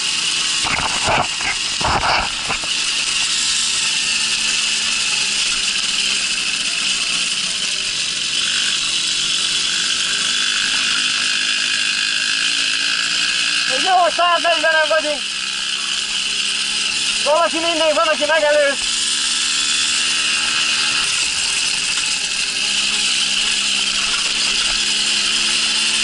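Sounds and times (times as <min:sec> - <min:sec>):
moped engine running: 0:00.0 - 0:26.0.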